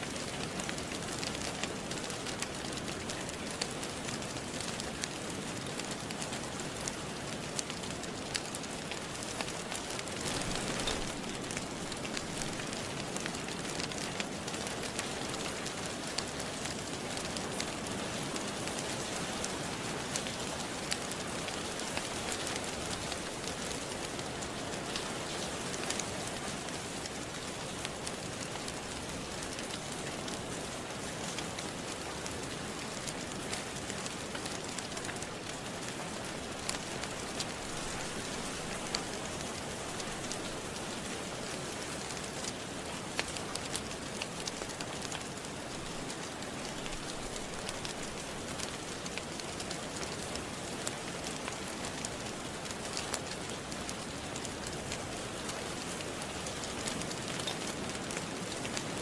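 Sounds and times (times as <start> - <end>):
steady rain: 0.0 - 59.0
wood fire crackling: 0.0 - 59.0.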